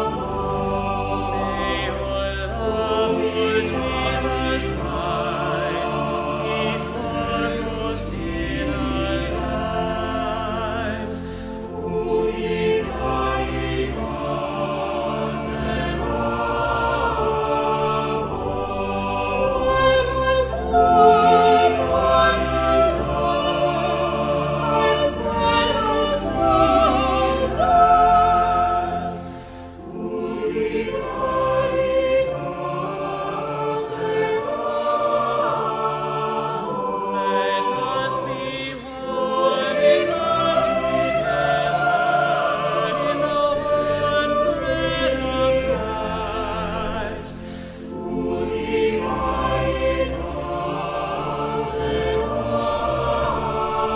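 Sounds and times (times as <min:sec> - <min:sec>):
choir singing: 0:00.0 - 0:53.9
instrumental accompaniment: 0:00.0 - 0:53.9.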